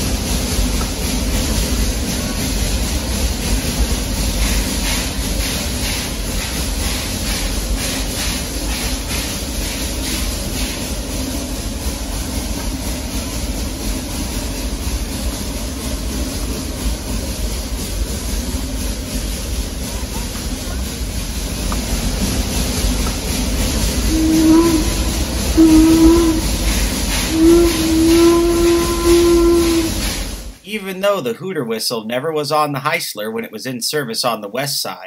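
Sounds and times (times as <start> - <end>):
steam locomotive exhaust beats: 0.0 - 30.6.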